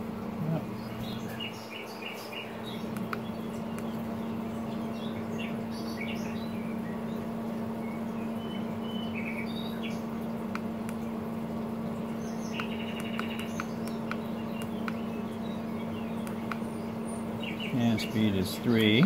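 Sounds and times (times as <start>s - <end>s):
birds chirping: 0.0s - 19.0s
grill fan humming: 0.0s - 19.0s.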